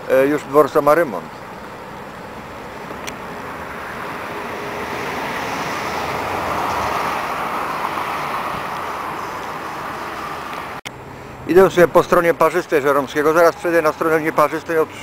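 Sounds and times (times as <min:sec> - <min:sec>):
vehicle passing on road: 0:00.0 - 0:15.0.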